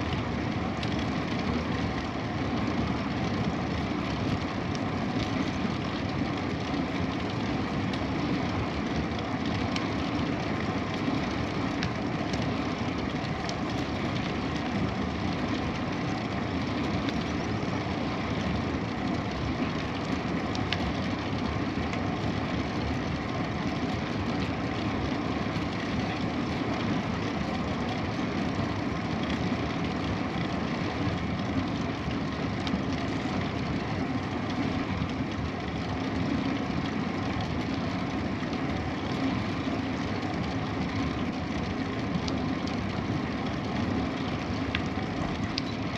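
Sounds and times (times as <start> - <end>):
bicycle tyres rolling: 0.0 - 45.9.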